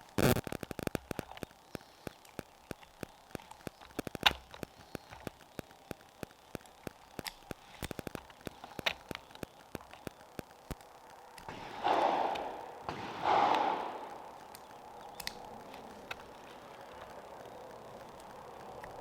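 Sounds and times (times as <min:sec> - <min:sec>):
faint irregular clicks: 0:00.0 - 0:19.0
loud sharp clicks: 0:00.2 - 0:19.0.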